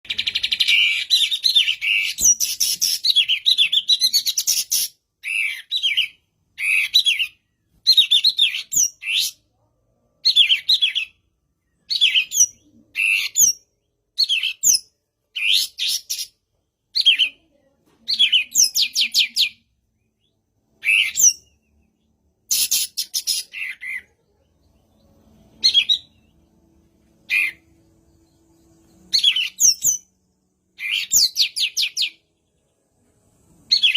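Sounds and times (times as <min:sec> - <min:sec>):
songbird singing: 0:00.0 - 0:09.6, 0:10.2 - 0:33.9.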